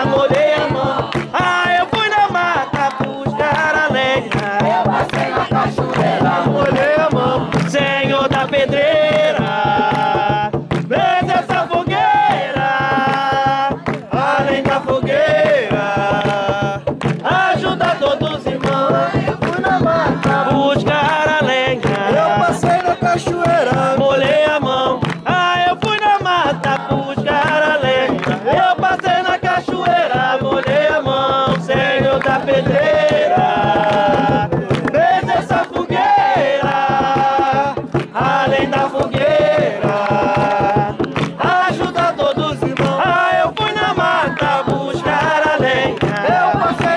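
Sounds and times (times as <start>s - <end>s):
drum beats: 0.0s - 46.9s
voices singing: 0.0s - 46.9s.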